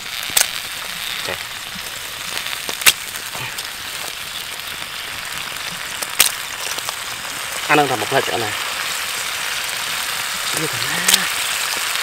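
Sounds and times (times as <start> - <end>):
crabs sizzling in a wok: 0.0 - 12.0.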